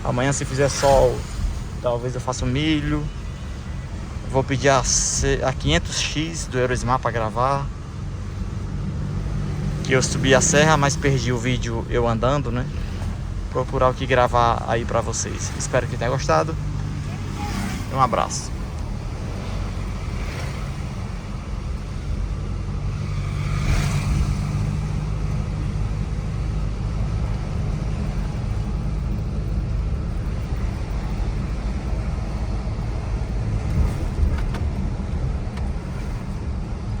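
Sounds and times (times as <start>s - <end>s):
engine and road drone: 0.0s - 37.0s.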